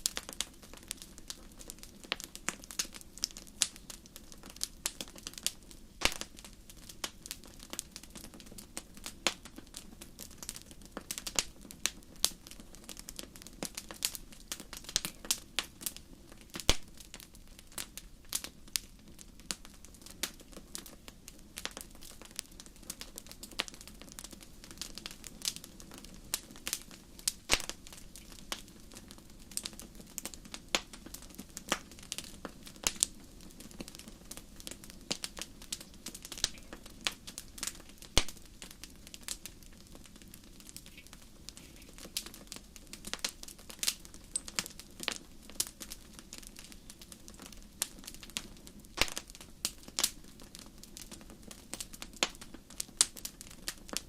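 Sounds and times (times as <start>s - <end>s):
campfire pops and snaps: 0.0s - 54.0s.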